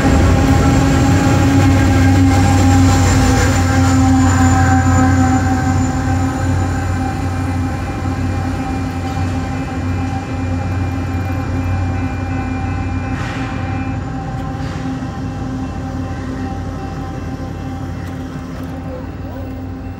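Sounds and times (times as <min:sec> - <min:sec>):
diesel locomotive rumbling: 0:00.0 - 0:19.9
crossing signal ringing: 0:00.1 - 0:19.9.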